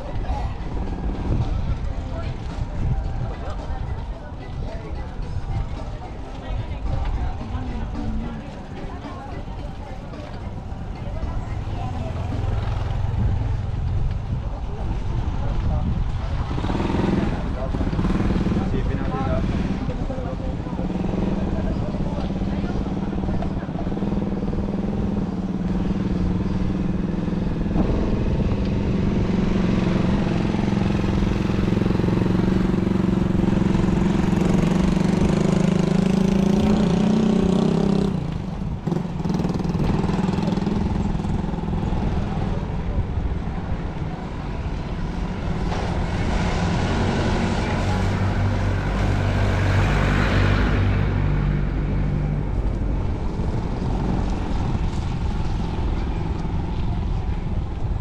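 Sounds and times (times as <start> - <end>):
motor vehicle engine drone: 6.6 - 58.0.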